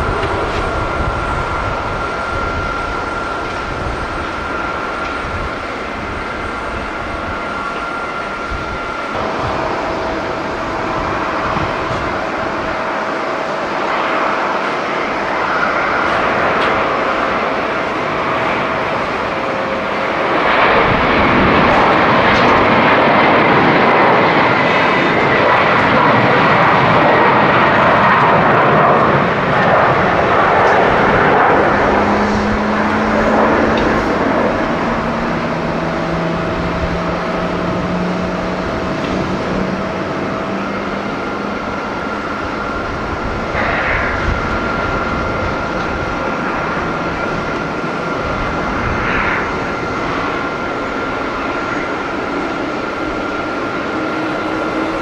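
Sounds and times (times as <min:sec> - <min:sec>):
jet engines roaring: 0:00.0 - 0:55.0
whining engine tones: 0:00.0 - 0:55.0.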